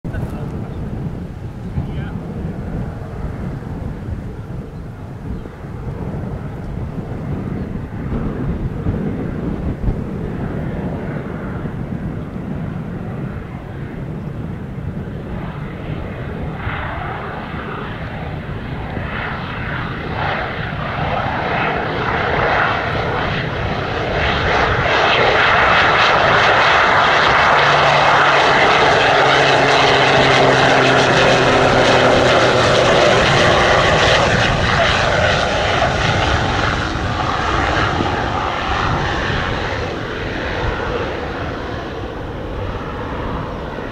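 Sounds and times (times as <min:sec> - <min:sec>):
turboprop plane engine and propeller: 0:00.0 - 0:43.9.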